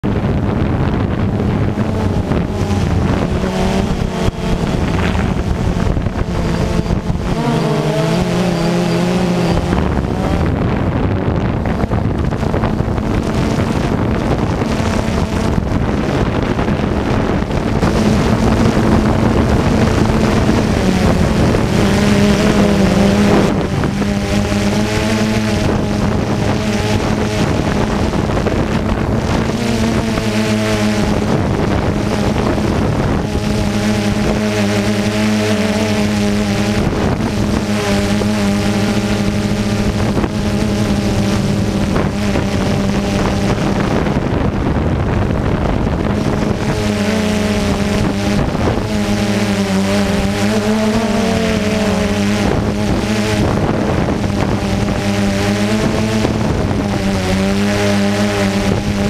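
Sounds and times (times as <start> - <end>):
drone propellers whirring: 0.0 - 59.0
wind on microphone: 0.0 - 59.0.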